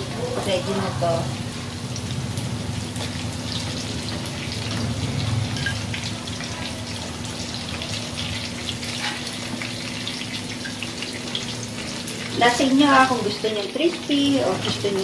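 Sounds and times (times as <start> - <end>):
tofu sizzling and popping in oil: 0.1 - 15.0.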